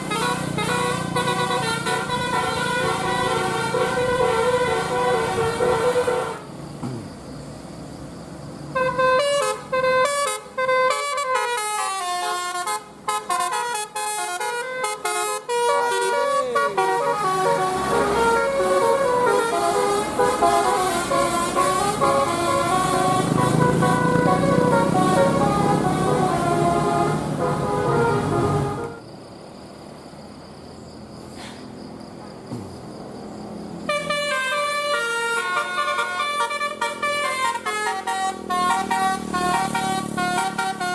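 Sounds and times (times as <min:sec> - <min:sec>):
multi-tone bus horn melody: 0:00.0 - 0:06.6, 0:08.7 - 0:29.0, 0:33.8 - 0:40.9.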